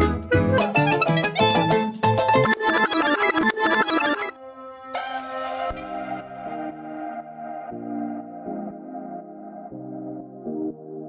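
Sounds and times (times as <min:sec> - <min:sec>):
ambient music soft chords: 0:02.1 - 0:11.0.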